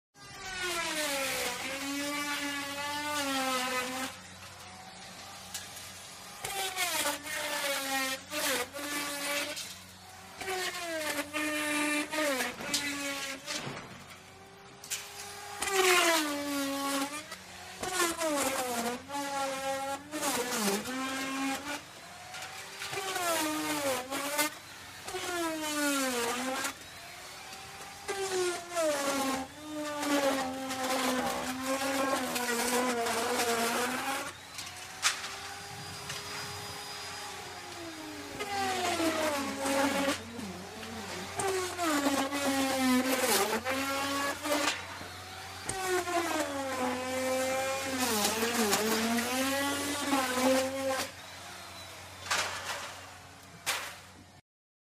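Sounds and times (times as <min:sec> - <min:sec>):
power saw cutting wood: 0:00.2 - 0:54.4.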